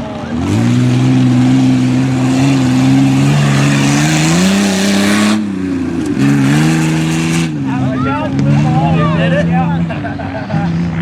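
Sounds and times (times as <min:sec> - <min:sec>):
truck engine at high revs: 0:00.0 - 0:11.0.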